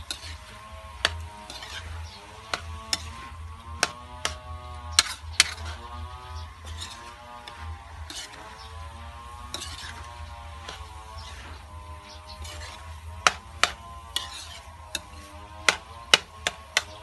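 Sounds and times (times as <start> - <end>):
spatula scraping a wok: 0.0 - 17.0.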